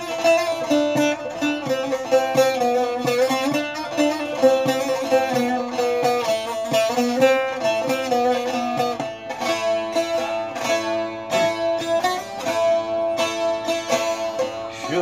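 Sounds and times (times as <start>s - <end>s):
saz picked notes over drone strings: 0.0s - 15.0s.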